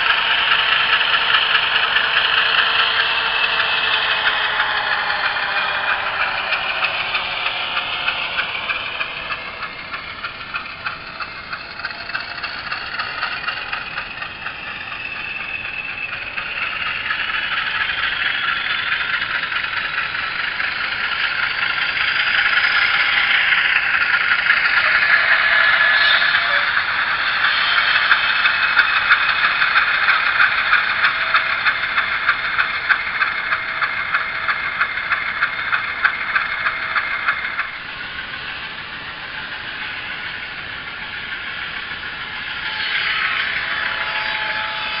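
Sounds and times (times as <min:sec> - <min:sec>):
diesel engine through small speaker: 0:00.0 - 0:42.6.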